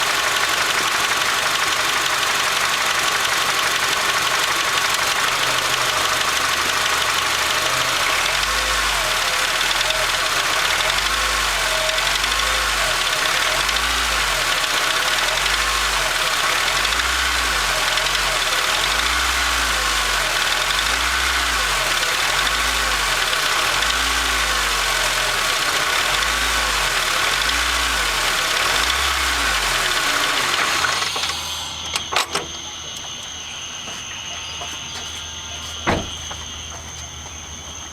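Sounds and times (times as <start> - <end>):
car engine revving: 0.0 - 31.9
engine clanking: 0.0 - 33.3, 35.7 - 37.1.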